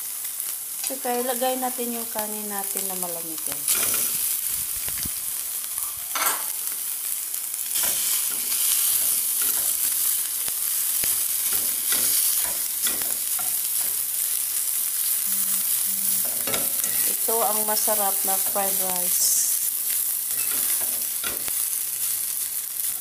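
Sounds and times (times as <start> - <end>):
rice sizzling in a pan: 0.0 - 23.0.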